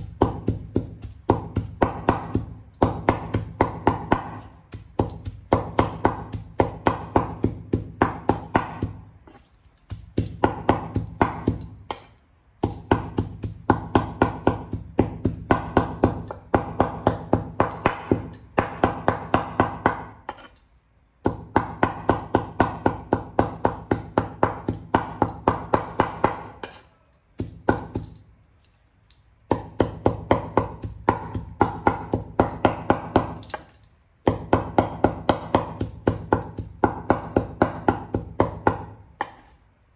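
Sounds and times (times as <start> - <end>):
cleaver chopping on wooden board: 0.0 - 20.5, 21.2 - 26.8, 27.4 - 28.2, 29.5 - 39.5.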